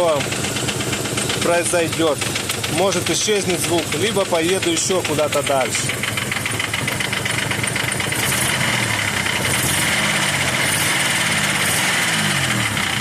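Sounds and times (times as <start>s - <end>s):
car engine idling unsteadily: 0.0s - 13.0s
rapid engine ticking: 0.0s - 13.0s.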